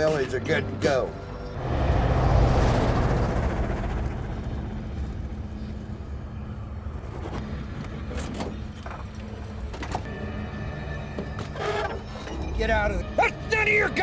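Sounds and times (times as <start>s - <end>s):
engine rumbling: 0.0s - 13.2s.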